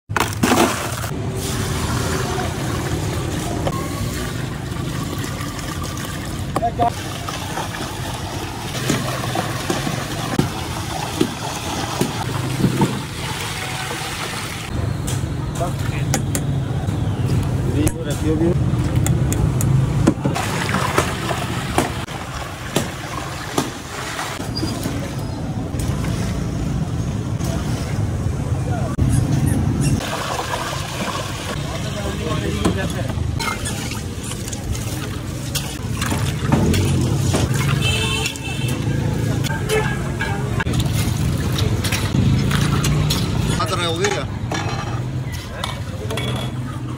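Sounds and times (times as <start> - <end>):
low rumble of street traffic: 0.1 - 46.9.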